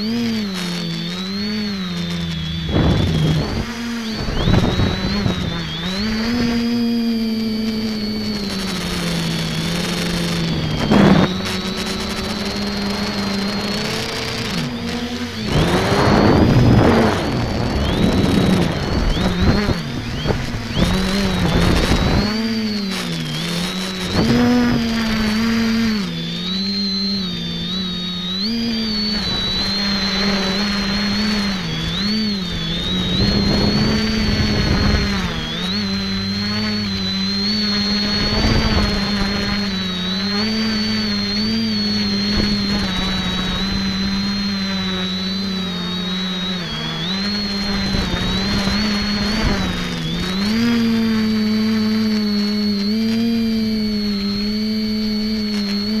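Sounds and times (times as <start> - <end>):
drone motors buzzing: 0.0 - 56.0
high propeller whine: 0.0 - 56.0.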